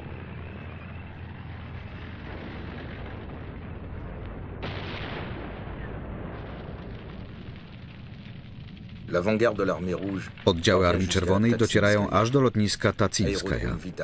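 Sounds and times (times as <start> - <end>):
artillery fire and explosions: 0.0 - 14.0.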